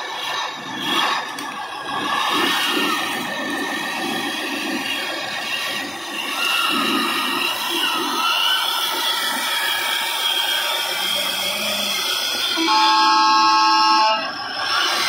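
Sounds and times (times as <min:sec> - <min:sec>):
electric motor and gearbox whining: 0:00.0 - 0:15.0.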